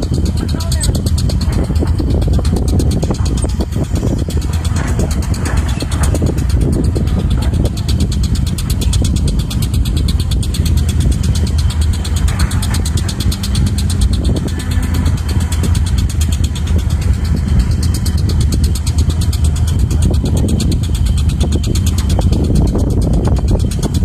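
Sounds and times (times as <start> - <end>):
excavator diesel engine clattering: 0.0 - 24.0.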